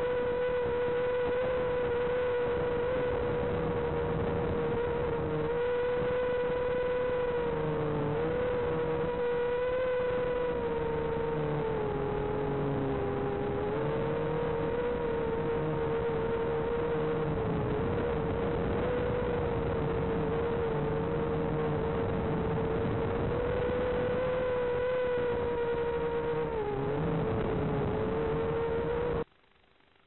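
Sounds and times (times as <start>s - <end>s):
quadcopter propellers whining: 0.0s - 29.2s.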